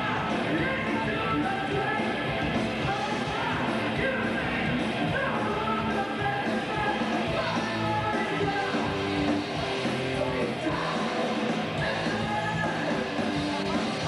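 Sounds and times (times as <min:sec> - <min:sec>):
heavy metal band playing live: 0:00.0 - 0:14.0.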